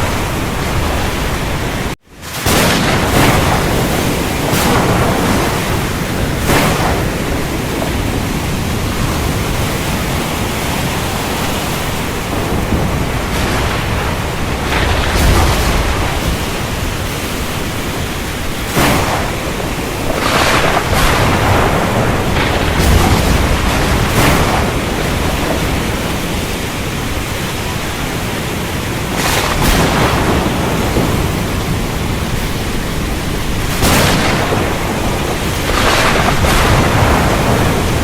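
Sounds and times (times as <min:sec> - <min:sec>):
heavy rain: 0:00.0 - 0:38.0
thunder cracks and rumble: 0:00.0 - 0:38.0.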